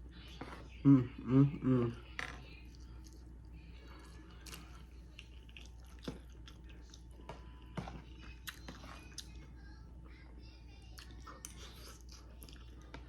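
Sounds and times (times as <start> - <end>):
chewing food: 2.5 - 13.0.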